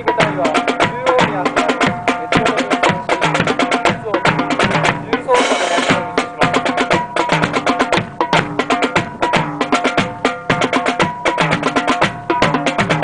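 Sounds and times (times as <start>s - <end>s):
brass and drums march music: 0.0s - 13.0s.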